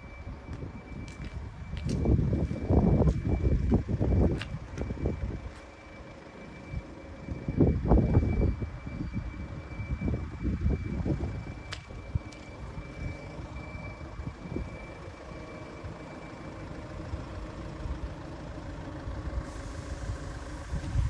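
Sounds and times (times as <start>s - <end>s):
vehicle low rumble: 0.0s - 21.0s.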